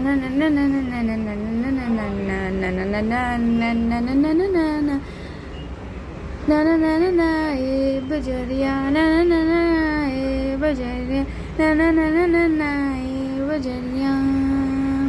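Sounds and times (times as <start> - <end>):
woman singing unaccompanied: 0.0 - 5.3, 6.4 - 15.0
low background hum: 0.0 - 15.0.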